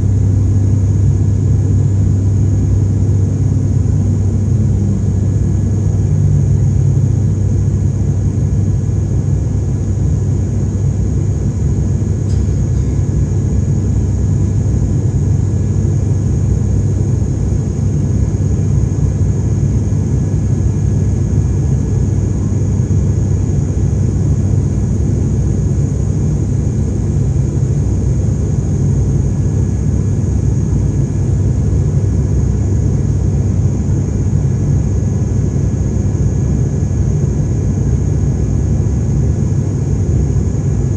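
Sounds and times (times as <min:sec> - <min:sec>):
engine and airflow rumble: 0:00.0 - 0:40.9
high constant whine: 0:00.0 - 0:40.9.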